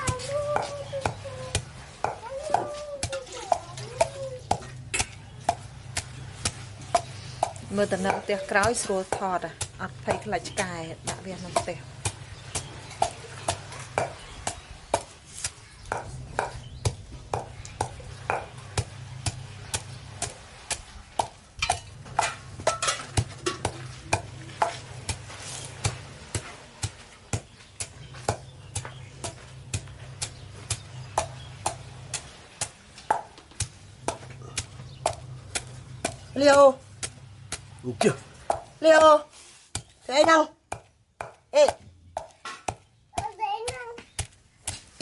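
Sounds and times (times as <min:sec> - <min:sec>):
low steady hum: 0:00.0 - 0:45.0
pestle pounding in mortar: 0:00.0 - 0:45.0.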